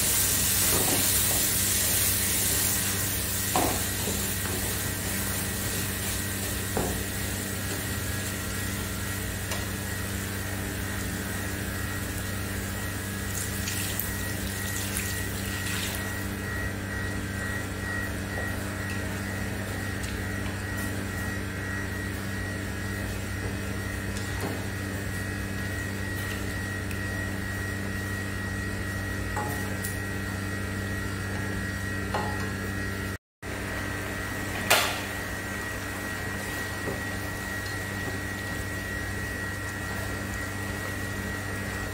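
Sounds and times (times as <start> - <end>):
mechanical hum: 0.0 - 41.9.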